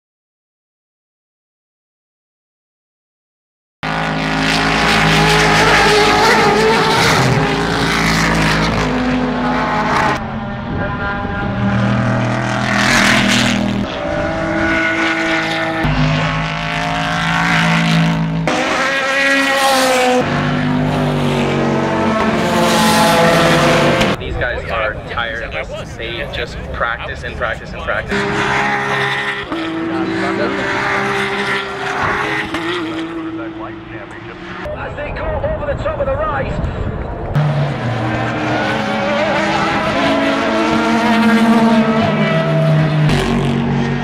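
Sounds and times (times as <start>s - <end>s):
race car engines passing: 3.8s - 44.0s.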